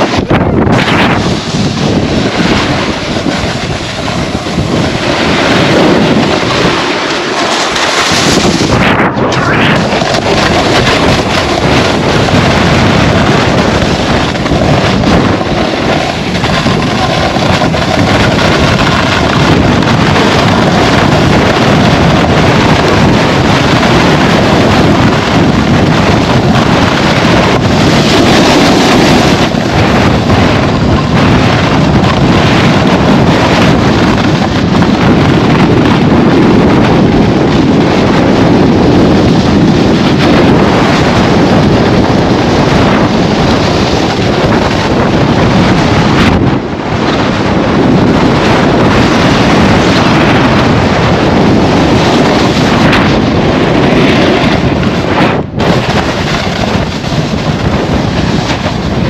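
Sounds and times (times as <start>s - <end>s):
snowboard sliding over snow: 0.0s - 59.0s
wind buffeting microphone: 0.0s - 59.0s.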